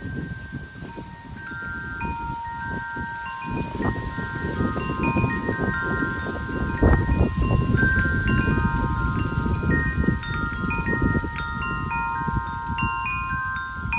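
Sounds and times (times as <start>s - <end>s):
wind buffeting microphone: 0.0s - 13.9s
wind chimes ringing: 0.0s - 13.9s.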